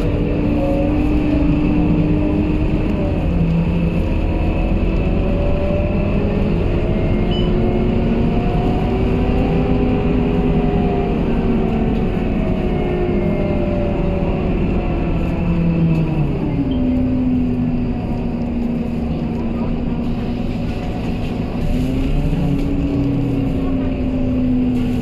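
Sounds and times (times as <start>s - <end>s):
bus diesel engine running: 0.0s - 25.0s
road noise: 0.0s - 25.0s.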